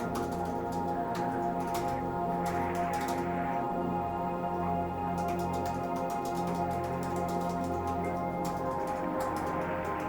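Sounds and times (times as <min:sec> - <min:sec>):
ambient music sustained tones: 0:00.0 - 0:10.0.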